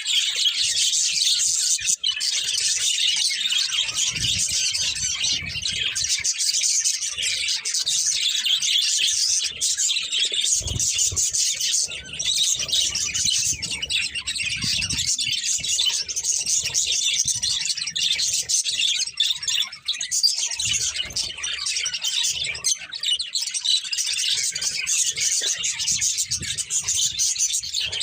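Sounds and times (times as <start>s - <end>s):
budgerigars chirping and warbling: 0.0s - 28.0s.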